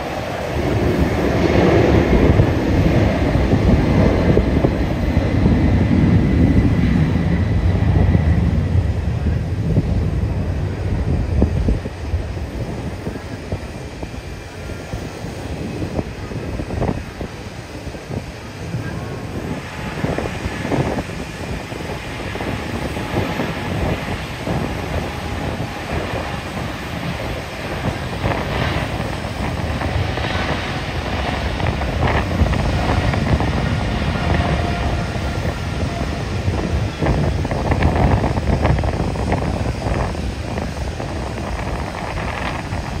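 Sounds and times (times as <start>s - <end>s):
jet engine rumble: 0.0s - 43.0s
wind buffeting microphone: 0.0s - 43.0s.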